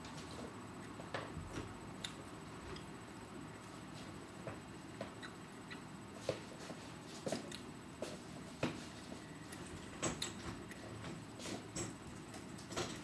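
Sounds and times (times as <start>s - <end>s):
small clicks and taps while eating: 0.1s - 2.9s, 4.4s - 6.4s, 7.2s - 13.0s.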